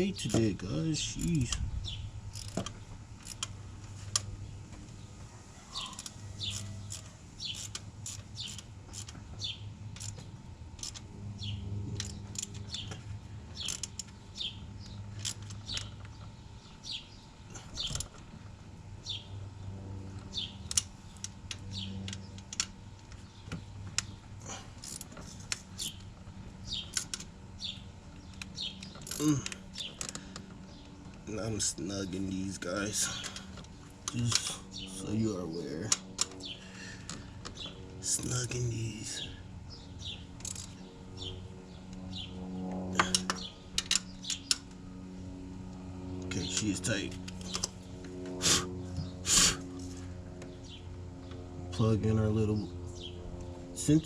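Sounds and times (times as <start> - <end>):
birds chirping: 0.0 - 54.0
low hum: 0.0 - 54.0.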